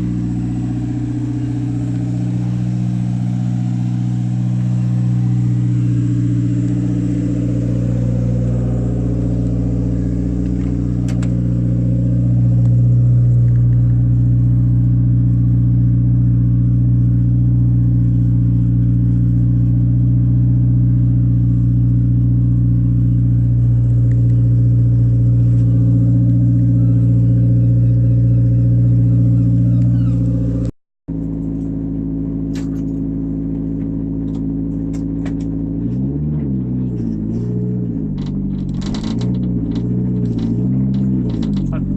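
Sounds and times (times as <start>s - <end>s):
car engine droning: 0.0s - 41.9s.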